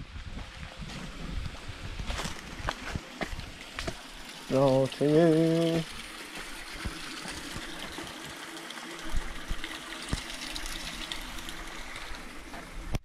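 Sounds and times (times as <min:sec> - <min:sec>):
stream trickling: 0:00.1 - 0:13.0.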